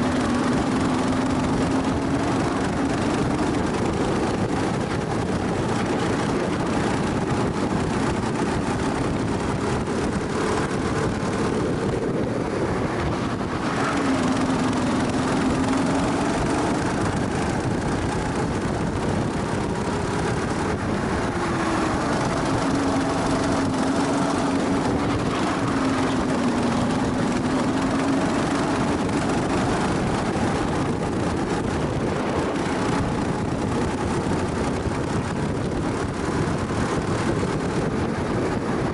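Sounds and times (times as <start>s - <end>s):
kart engine revving: 0.0s - 38.9s
wind and road noise: 0.0s - 38.9s.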